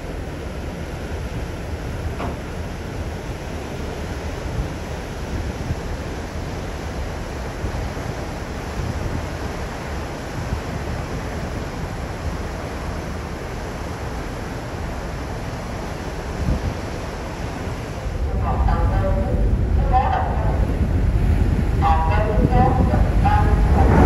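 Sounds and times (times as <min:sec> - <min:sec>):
ferry wake churning: 0:00.0 - 0:24.0
wind buffeting microphone: 0:00.0 - 0:24.0.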